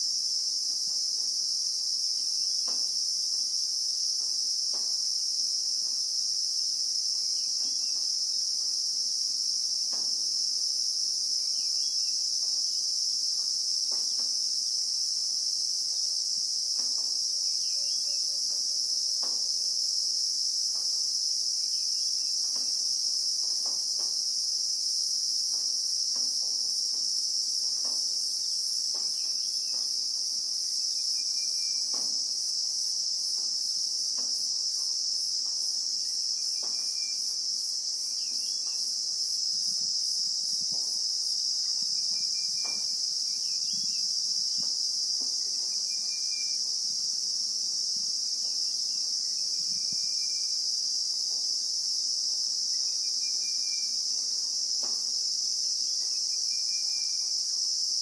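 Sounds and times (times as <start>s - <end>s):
cicadas droning: 0.0s - 58.0s.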